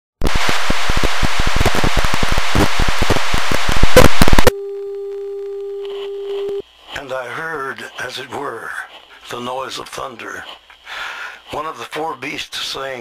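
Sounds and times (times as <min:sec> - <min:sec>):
television static hiss: 0:00.2 - 0:04.6, 0:05.2 - 0:13.0.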